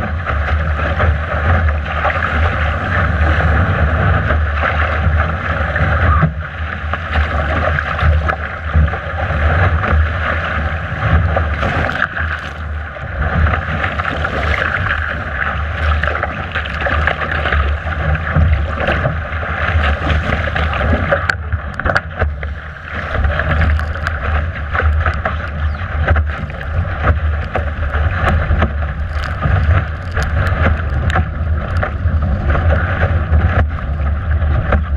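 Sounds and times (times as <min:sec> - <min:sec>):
water rushing along hull: 0:00.0 - 0:34.9
wind buffeting microphone: 0:00.0 - 0:34.9.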